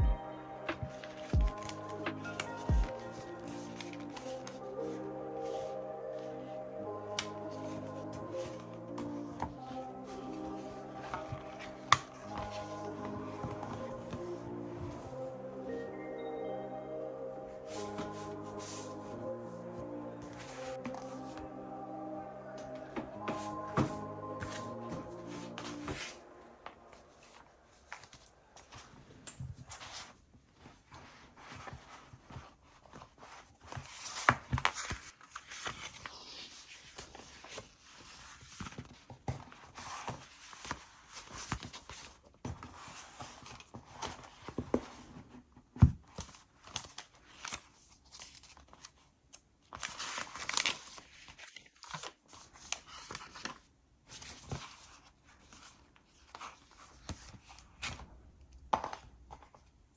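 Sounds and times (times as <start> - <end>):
paper and leather rustling: 0.7 - 6.4, 7.2 - 15.2, 23.0 - 58.2.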